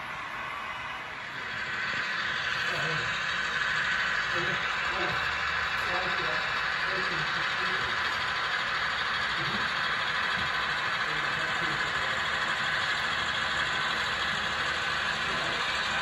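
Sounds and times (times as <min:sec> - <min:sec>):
model locomotives humming: 0:00.0 - 0:16.0.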